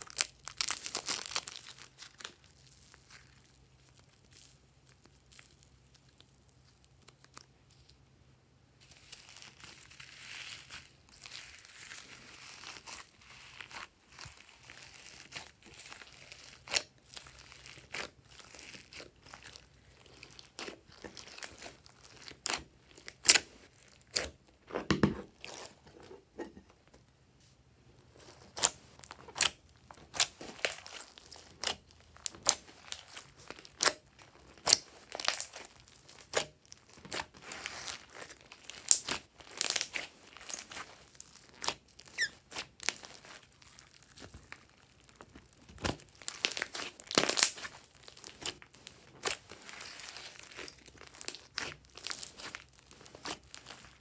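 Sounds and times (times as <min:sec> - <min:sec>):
hands squishing slime: 0:00.0 - 0:08.0, 0:08.8 - 0:26.5, 0:28.0 - 0:54.0.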